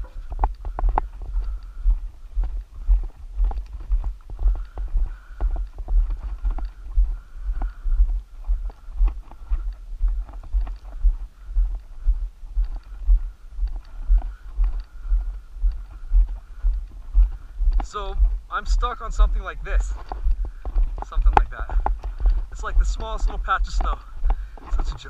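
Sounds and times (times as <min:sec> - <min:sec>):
footsteps on gravel: 0:00.0 - 0:25.0.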